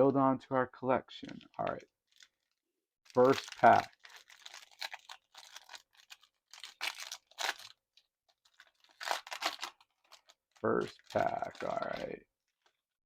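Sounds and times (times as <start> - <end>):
card pack wrapper tearing: 1.3 - 12.8.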